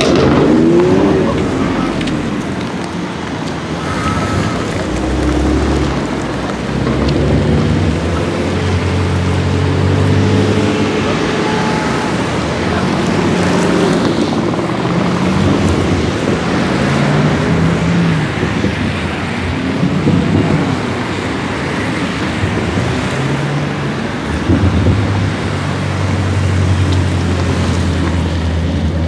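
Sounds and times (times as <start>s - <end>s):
car engine pulling away: 0.0s - 29.0s
cars accelerating past: 0.0s - 29.0s.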